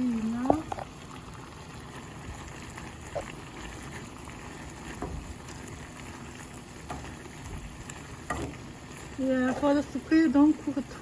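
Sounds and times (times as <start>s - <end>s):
pot simmering on stove: 0.0s - 11.0s.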